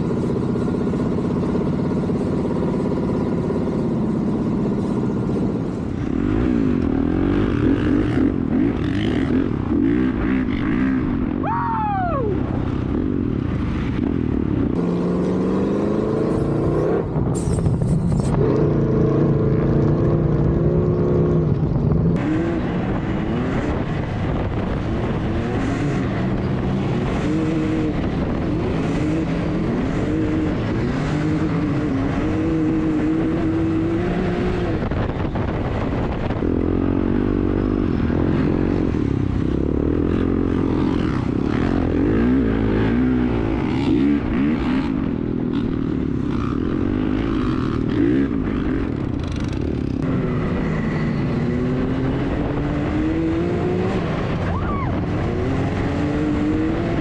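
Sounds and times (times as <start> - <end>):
off-road engines revving: 0.0 - 57.0.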